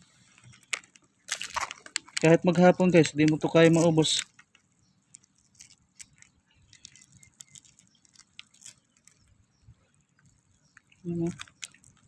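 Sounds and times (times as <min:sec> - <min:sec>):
mussel shells clicking and scraping: 0:00.2 - 0:12.0.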